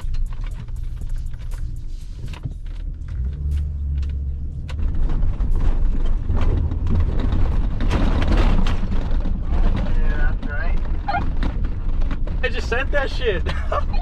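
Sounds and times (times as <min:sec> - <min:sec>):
truck engine drone: 0:00.0 - 0:14.0
truck knocks and rattles: 0:00.0 - 0:14.0.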